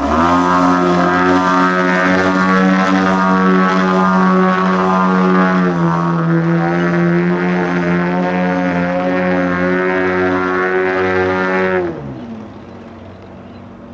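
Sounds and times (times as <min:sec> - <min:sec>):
model airplane engine and propeller: 0:00.0 - 0:13.9.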